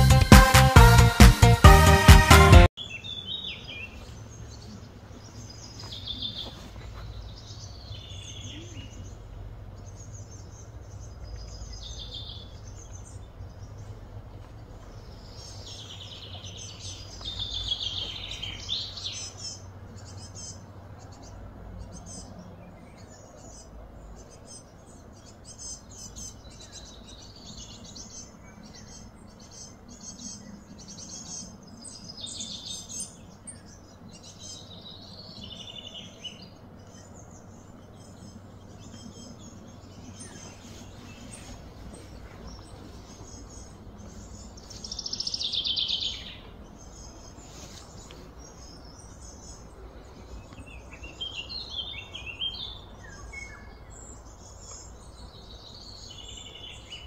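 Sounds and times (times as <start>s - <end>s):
birds chirping: 0.0s - 57.0s
steady low hum: 3.9s - 57.0s.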